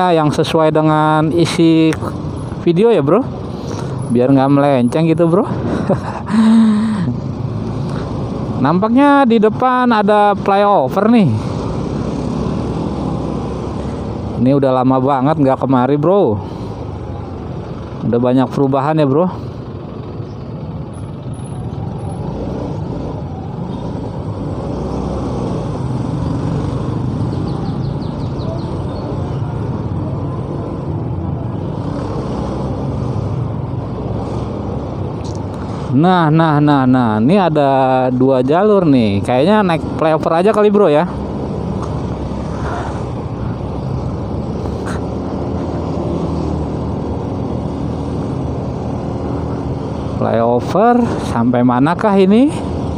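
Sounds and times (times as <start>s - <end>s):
nearby car and scooter engines: 0.0s - 52.9s
road noise: 0.0s - 52.9s.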